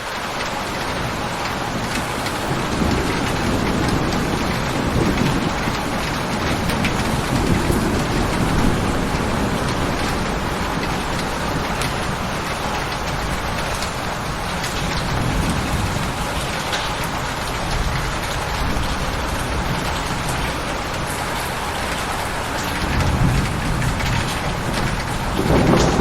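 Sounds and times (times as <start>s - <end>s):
steady rain falling: 0.0s - 26.0s
low thunder rumble: 0.8s - 26.0s.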